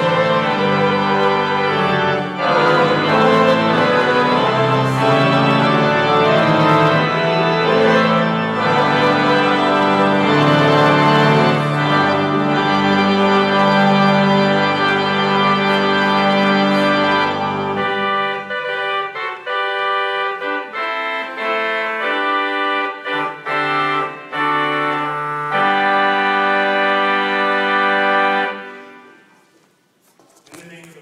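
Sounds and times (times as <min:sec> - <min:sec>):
organ chords with deep bass: 0:00.0 - 0:28.8.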